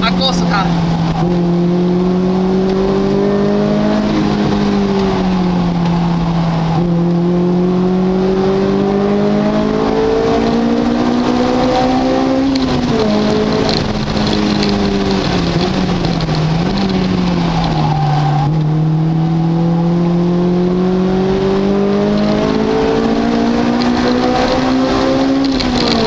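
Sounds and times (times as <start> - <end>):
car engine revving: 0.0 - 26.0
road and wind noise: 0.0 - 26.0.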